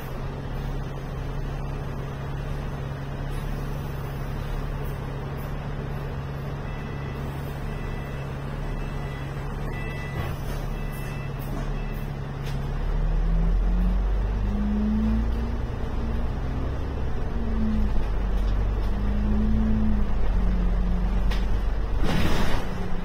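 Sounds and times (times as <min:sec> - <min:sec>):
bus engine rumbling through gears: 0:00.0 - 0:23.0.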